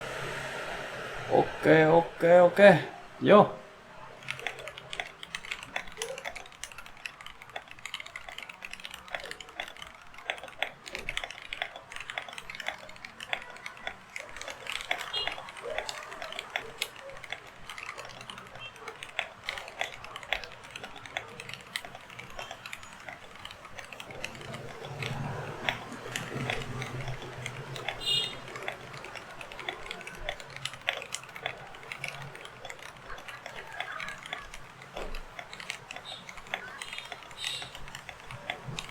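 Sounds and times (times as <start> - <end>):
fast mechanical keyboard typing: 1.3 - 38.9.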